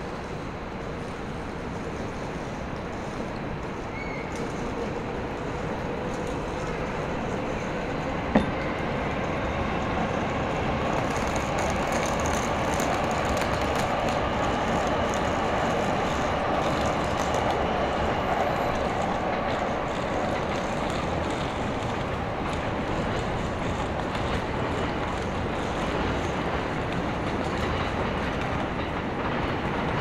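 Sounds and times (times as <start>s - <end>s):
passing train rumble: 0.0s - 30.0s.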